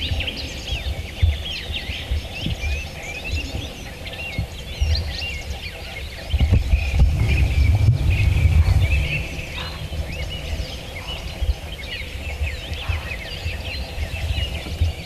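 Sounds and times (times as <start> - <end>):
birds chirping and singing: 0.0 - 15.0
low rumble on microphone: 0.0 - 15.0.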